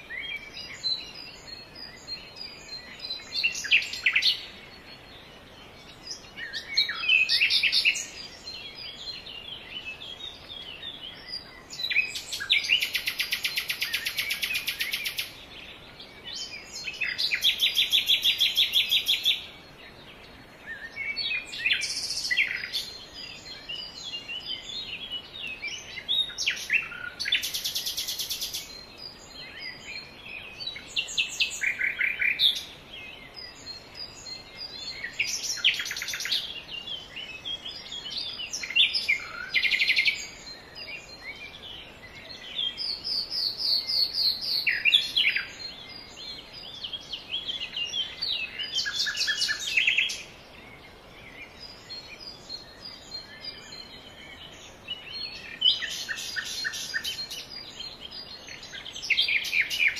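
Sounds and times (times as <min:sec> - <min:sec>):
birds chirping and whistling: 0:00.0 - 0:59.9.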